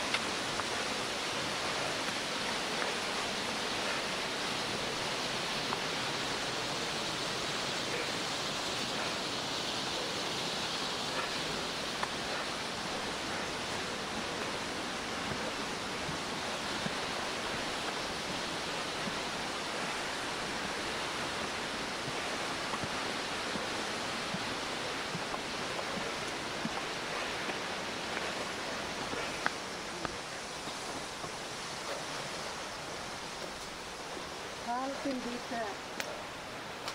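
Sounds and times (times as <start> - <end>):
waterfall roaring: 0.0 - 36.9.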